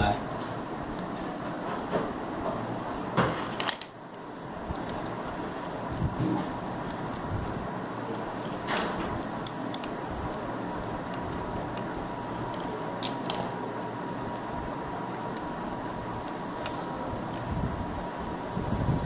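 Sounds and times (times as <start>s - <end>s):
fan-like room noise: 0.0s - 19.0s.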